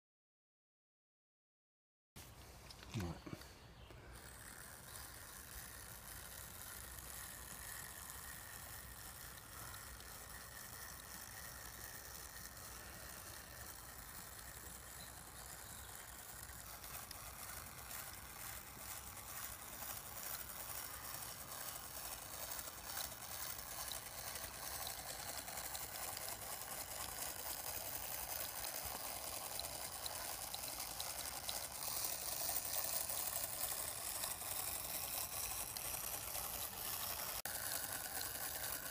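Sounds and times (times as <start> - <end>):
gear train whirring and clicking: 2.6 - 38.9.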